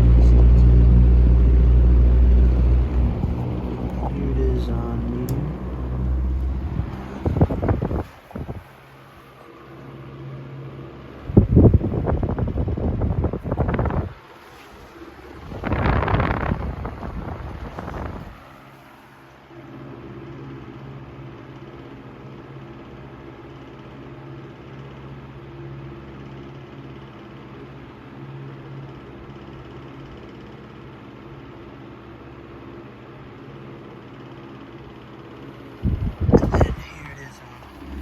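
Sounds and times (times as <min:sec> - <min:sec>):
table fan motor hum: 0:00.0 - 0:38.0.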